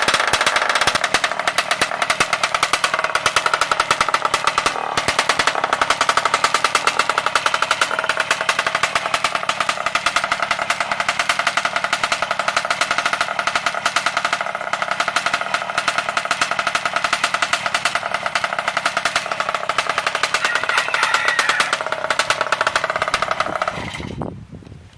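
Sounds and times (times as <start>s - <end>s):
small engine exhaust popping: 0.0s - 24.4s.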